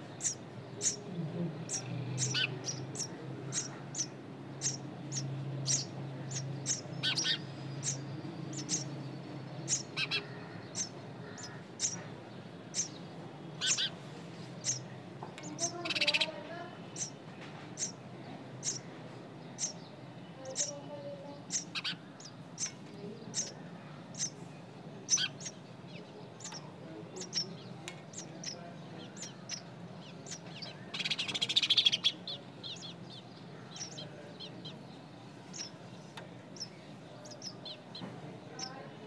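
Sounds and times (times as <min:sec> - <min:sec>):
nestling birds peeping: 0:00.0 - 0:39.0.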